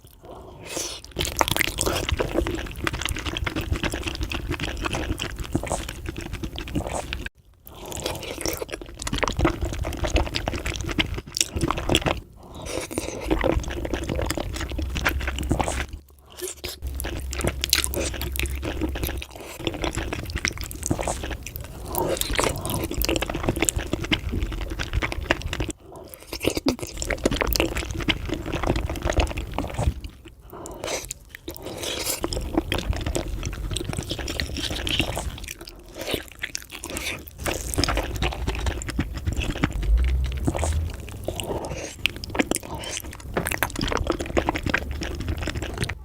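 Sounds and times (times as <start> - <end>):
wet chewing and crunching: 0.0 - 46.0.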